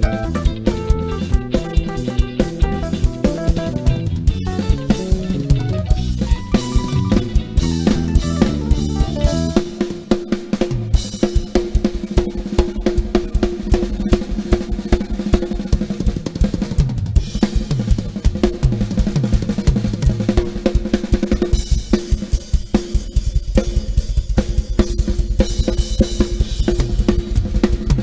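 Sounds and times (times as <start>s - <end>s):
drum kit played fast: 0.0s - 28.0s.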